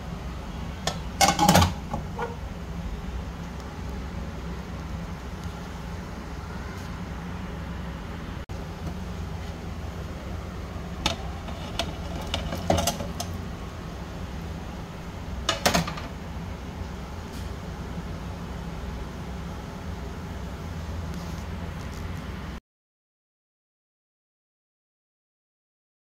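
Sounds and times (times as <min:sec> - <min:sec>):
low background hum: 0:00.0 - 0:22.6.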